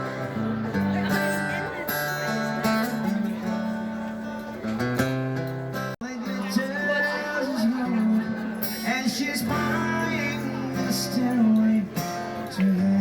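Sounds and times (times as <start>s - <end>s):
song with strummed acoustic guitar: 0.0s - 13.0s.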